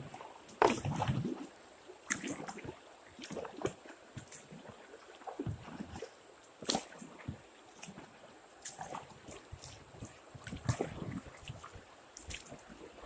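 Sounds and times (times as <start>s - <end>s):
paddle splashing water: 0.0s - 13.0s
water gurgling: 0.0s - 13.0s.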